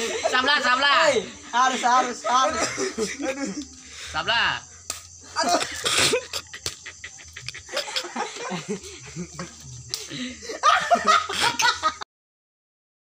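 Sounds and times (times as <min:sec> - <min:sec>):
men laughing: 0:00.0 - 0:04.2, 0:05.2 - 0:12.0.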